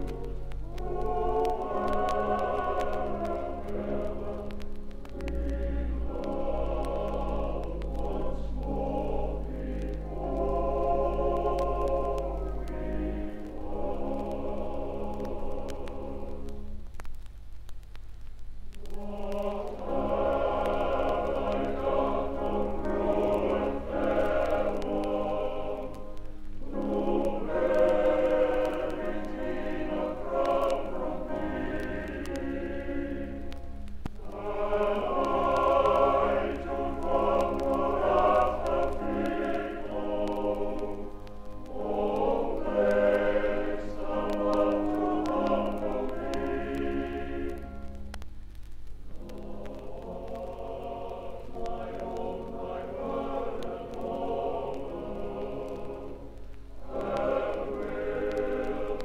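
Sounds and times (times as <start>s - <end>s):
male voice choir singing: 0.0s - 4.6s, 5.3s - 16.6s, 18.8s - 33.4s, 34.2s - 47.7s, 49.2s - 56.2s, 56.8s - 59.0s
vinyl record surface clicks: 0.0s - 59.0s.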